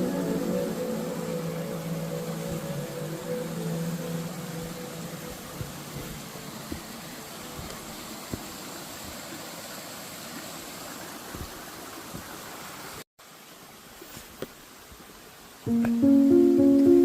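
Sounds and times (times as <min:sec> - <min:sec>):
creek water cascading over rocks: 0:00.0 - 0:17.0.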